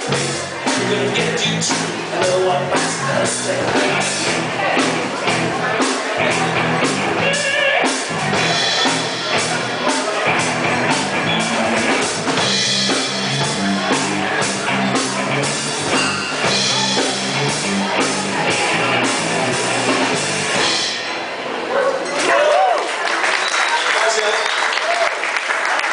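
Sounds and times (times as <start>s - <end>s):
drum kit beat: 0.0s - 21.6s
electric guitar: 0.0s - 21.7s
electric bass: 0.0s - 21.8s.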